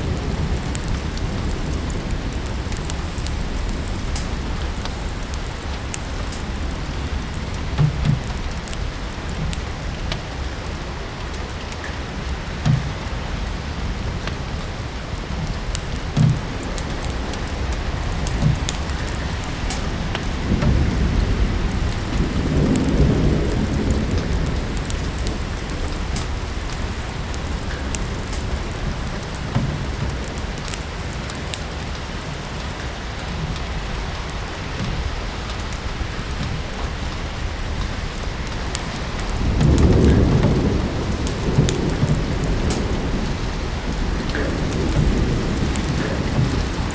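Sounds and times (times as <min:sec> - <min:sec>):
fire crackling in fireplace: 0:00.0 - 0:46.9
steady rain: 0:00.0 - 0:46.9
thunder rumbling: 0:00.0 - 0:46.9.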